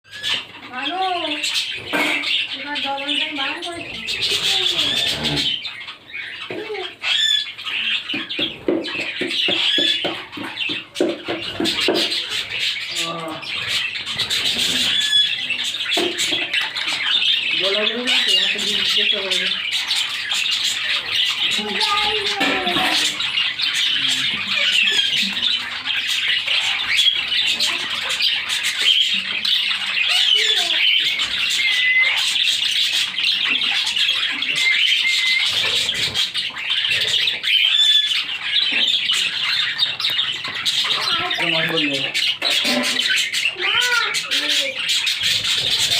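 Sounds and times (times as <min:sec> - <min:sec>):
parrots chattering and squawking: 0:00.0 - 0:45.9.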